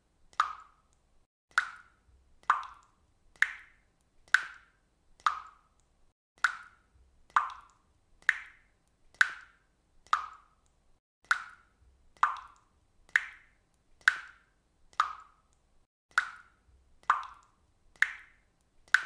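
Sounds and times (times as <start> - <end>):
faucet dripping: 0.3 - 4.6, 5.2 - 9.5, 10.1 - 19.0.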